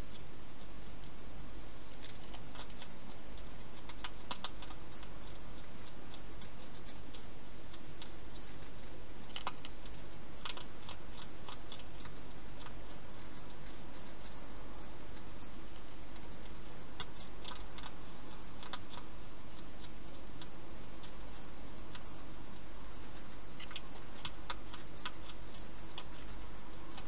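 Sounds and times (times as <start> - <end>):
hedgehog crunching food: 0.0 - 27.0.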